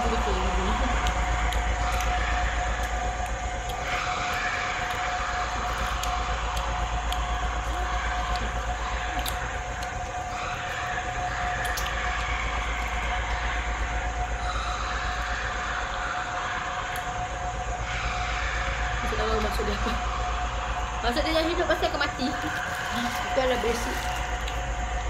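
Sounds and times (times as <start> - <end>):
high-pitched whine: 0.0 - 25.0
low hum: 0.0 - 25.0
noisy drone: 0.0 - 25.0.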